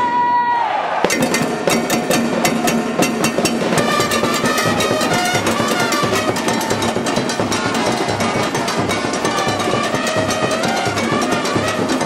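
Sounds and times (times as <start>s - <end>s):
band drums and percussion: 1.0s - 12.0s.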